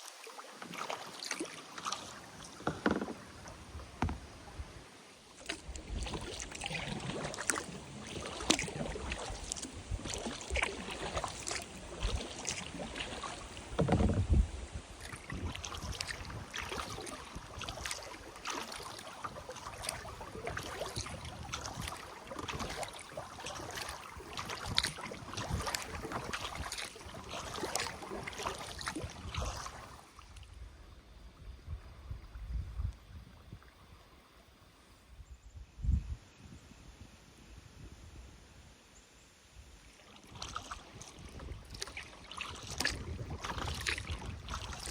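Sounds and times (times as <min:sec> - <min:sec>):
paddle splashing water: 0:00.0 - 0:32.4, 0:39.8 - 0:44.9.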